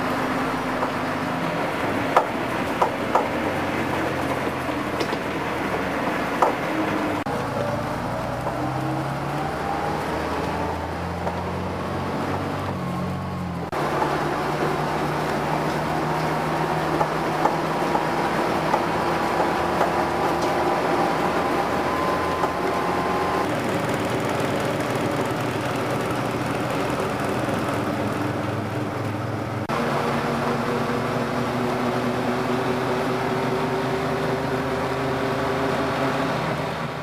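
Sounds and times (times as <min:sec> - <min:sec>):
bus engine and drivetrain: 0:00.0 - 0:37.0.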